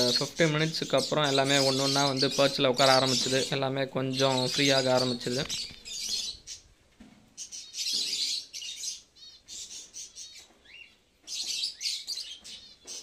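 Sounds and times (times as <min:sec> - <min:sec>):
birds chirping in shrill bursts: 0:00.0 - 0:06.8, 0:07.4 - 0:13.0.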